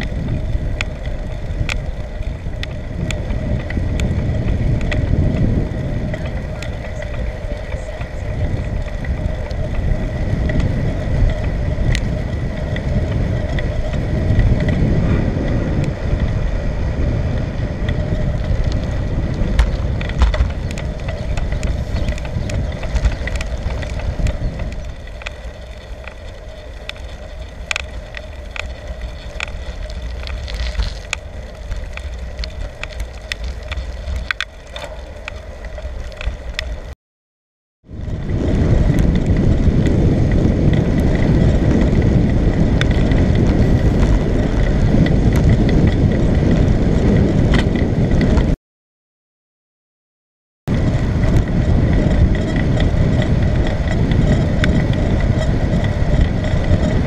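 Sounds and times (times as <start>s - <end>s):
bicycle rolling: 0.0s - 37.0s, 37.8s - 48.6s, 50.7s - 57.0s
wind rushing over microphone: 0.0s - 37.0s, 37.8s - 48.6s, 50.7s - 57.0s.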